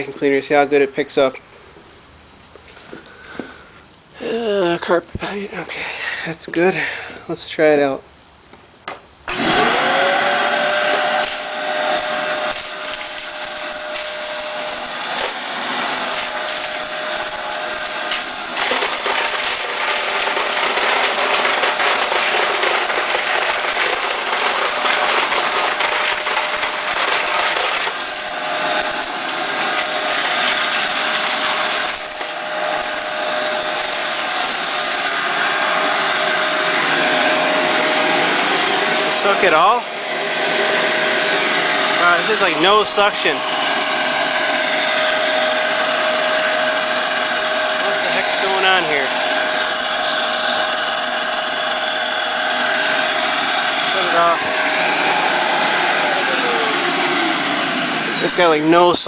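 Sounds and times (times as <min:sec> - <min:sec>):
vacuum cleaner motor whine: 0:08.5 - 0:59.0.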